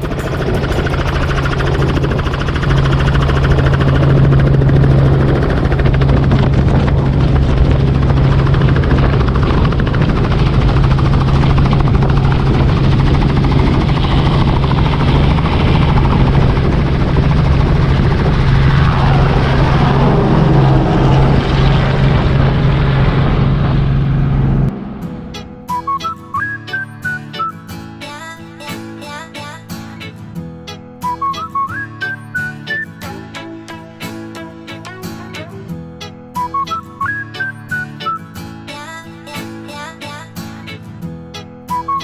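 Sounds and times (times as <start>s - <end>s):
helicopter rotor noise: 0.0s - 27.7s, 28.7s - 42.0s
helicopter engine drone: 0.0s - 28.0s, 29.1s - 42.0s.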